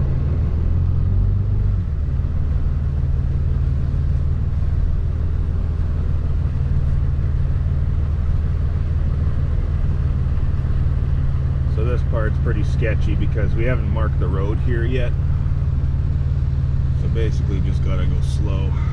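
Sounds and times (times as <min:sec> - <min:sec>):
diesel engine running at low revs: 0:00.0 - 0:18.9.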